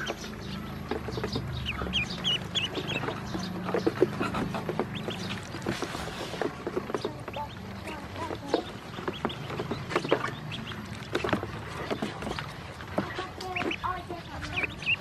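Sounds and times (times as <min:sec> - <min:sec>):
ducklings peeping: 0:00.0 - 0:15.0
small water splashes: 0:00.0 - 0:15.0.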